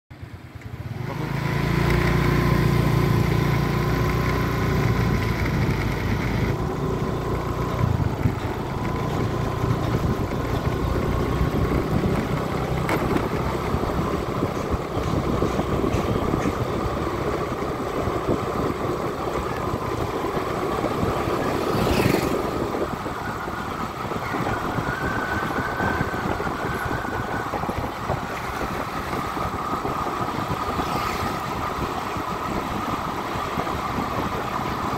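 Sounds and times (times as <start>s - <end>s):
road and wind noise: 0.1s - 34.9s
vehicle engine running: 0.2s - 34.9s.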